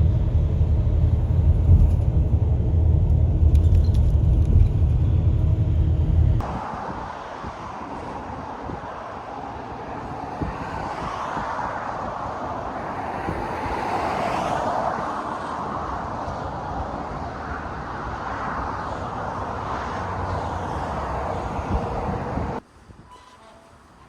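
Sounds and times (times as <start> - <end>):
vehicles passing: 0.0 - 22.7
road traffic noise: 0.0 - 24.0.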